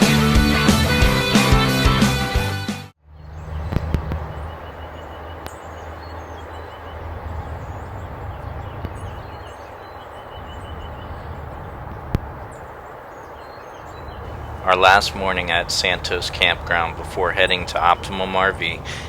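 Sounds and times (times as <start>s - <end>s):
small birds chirping: 3.0s - 19.0s
steady low rumble: 3.1s - 19.0s.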